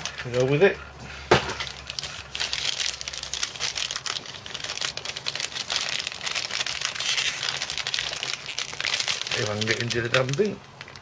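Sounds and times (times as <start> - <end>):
plastic packaging crinkling: 0.0 - 0.8, 1.4 - 11.0.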